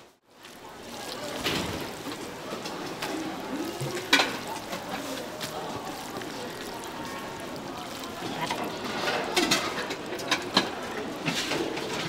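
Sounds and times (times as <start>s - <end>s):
faint indistinct voices: 0.0s - 12.0s
market background noise: 0.0s - 12.0s
chopsticks stirring noodles in bowl: 0.4s - 12.0s.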